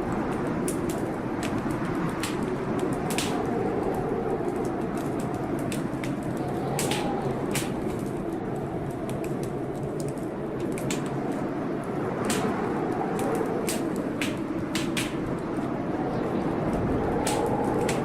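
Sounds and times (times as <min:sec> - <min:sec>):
blizzard wind moaning: 0:00.0 - 0:18.0
wood fire crackling and popping: 0:00.0 - 0:18.0.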